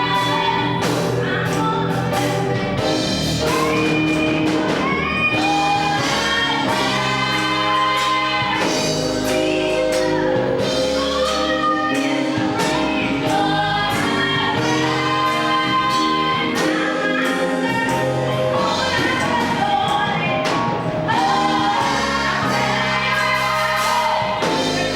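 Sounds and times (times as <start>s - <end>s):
gospel choir singing: 0.0s - 24.9s.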